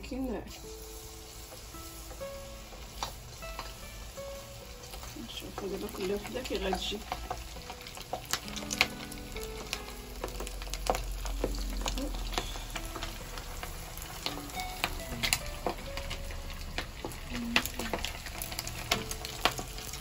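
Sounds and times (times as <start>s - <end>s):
deep-frying sizzle with pops: 0.0s - 20.0s.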